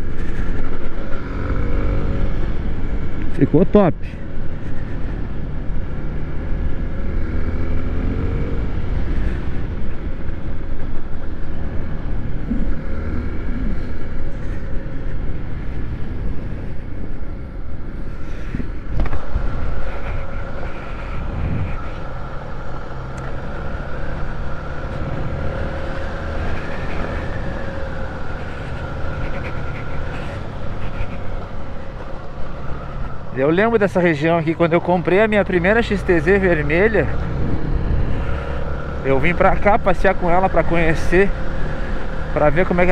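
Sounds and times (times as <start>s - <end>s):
motorcycle engine revving: 0.0s - 3.4s, 4.4s - 42.9s.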